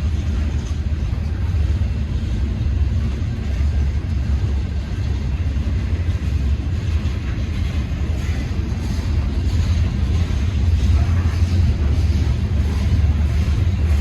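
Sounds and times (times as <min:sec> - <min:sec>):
train rumbling past: 0:00.0 - 0:14.0
wheels hissing on rail: 0:00.0 - 0:14.0.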